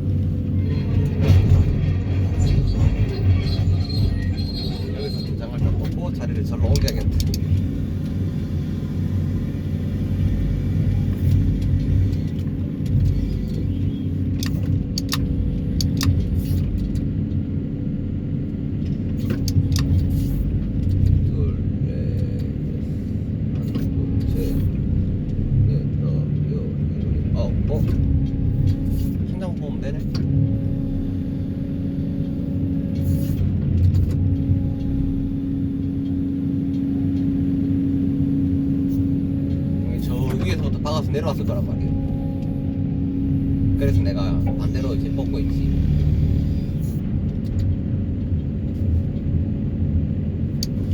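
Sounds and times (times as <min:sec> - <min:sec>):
excavator engine and hydraulics: 0:00.0 - 0:50.9.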